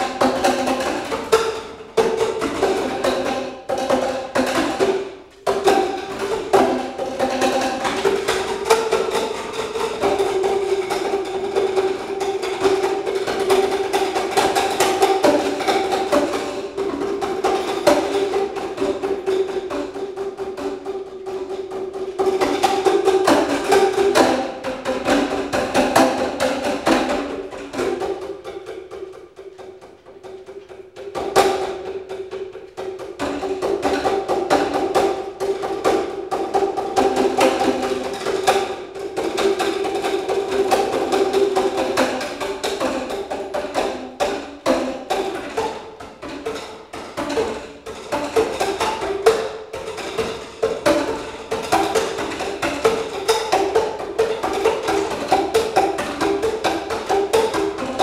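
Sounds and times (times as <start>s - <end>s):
percussive wood block music: 0.0s - 58.0s.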